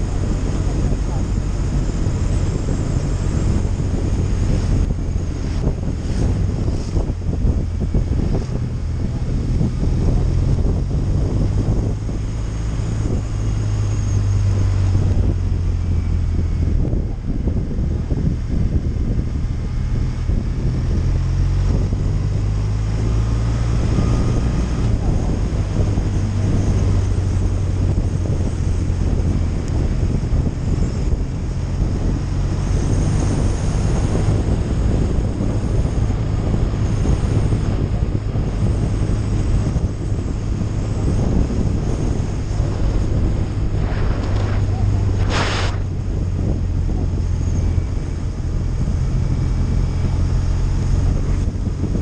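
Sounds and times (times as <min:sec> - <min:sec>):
motorcycle engine hum: 0:00.0 - 0:52.0
wind noise on microphone: 0:00.0 - 0:52.0.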